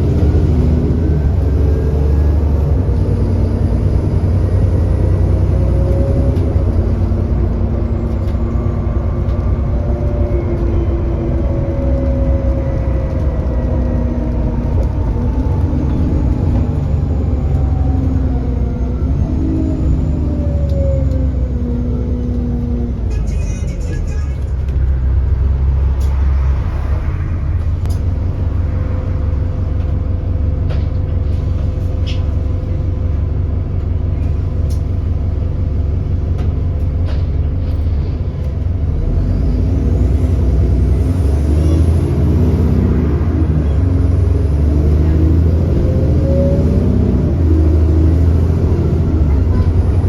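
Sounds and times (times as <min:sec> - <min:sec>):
bus diesel engine running: 0:00.0 - 0:50.0.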